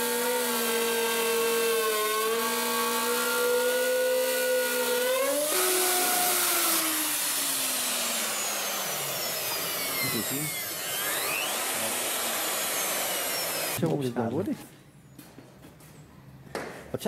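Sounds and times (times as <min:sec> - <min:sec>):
electric router whining: 0:00.0 - 0:13.9.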